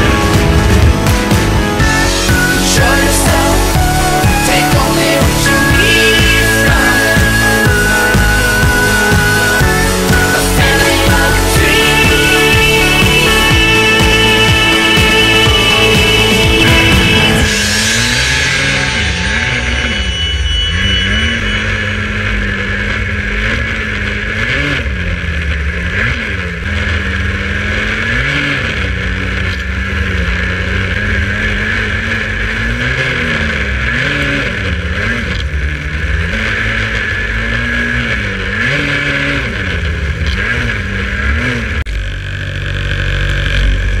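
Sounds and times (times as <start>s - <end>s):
snowmobile engine revving: 0.0s - 44.0s.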